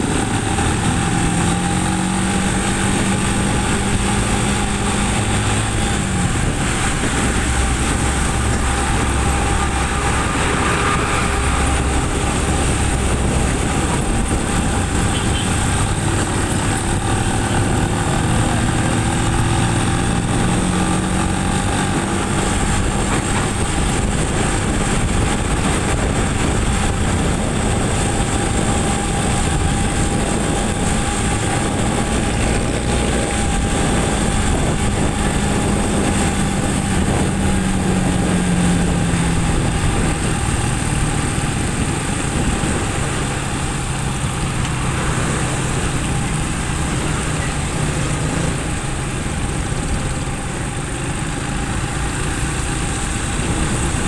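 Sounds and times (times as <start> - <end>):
motorcycle engine running: 0.0 - 54.0
tyre noise on wet road: 0.0 - 54.0.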